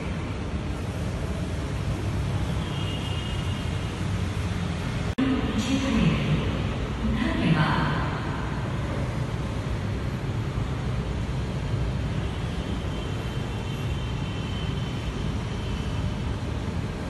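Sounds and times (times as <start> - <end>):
metro station rumble: 0.0 - 17.0.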